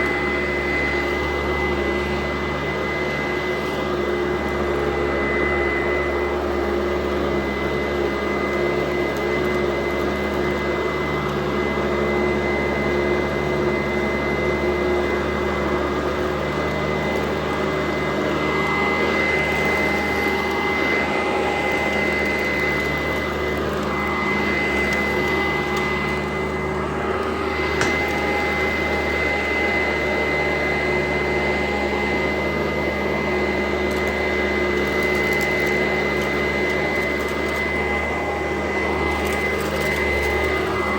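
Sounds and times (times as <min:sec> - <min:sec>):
vacuum cleaner running with whine: 0:00.0 - 0:40.9.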